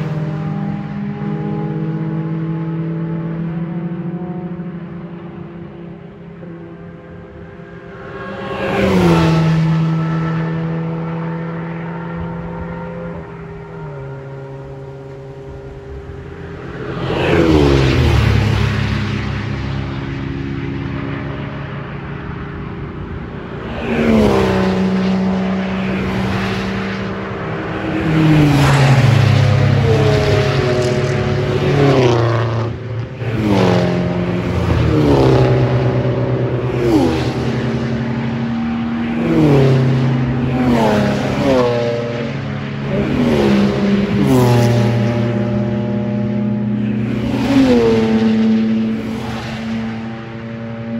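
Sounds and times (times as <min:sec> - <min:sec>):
racing cars driving past: 0:00.0 - 0:50.9.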